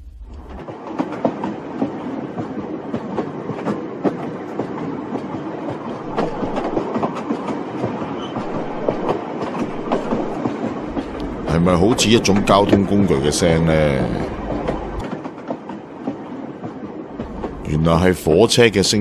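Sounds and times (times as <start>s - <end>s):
train rumbling on track: 0.0s - 19.0s
wheels clattering clicks: 0.7s - 17.7s.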